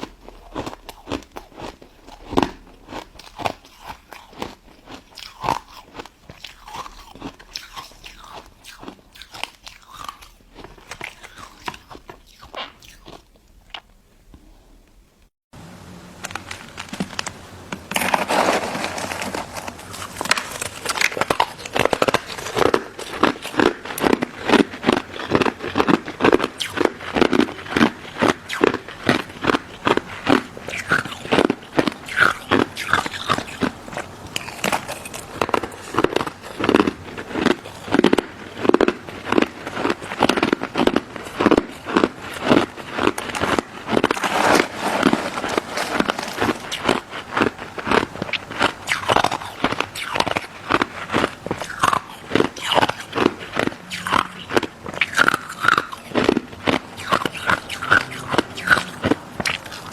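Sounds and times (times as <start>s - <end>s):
crunchy biting and chewing: 0.0s - 13.9s, 16.4s - 59.9s.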